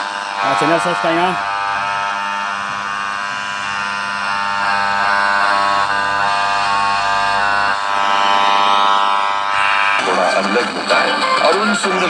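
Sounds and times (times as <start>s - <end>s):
radio playing sustained musical tones: 0.0s - 12.0s.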